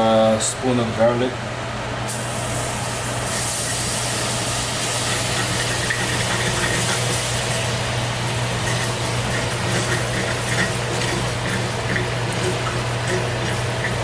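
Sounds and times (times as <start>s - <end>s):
steady low hum: 0.0s - 14.0s
garlic sizzling in hot oil: 2.1s - 14.0s.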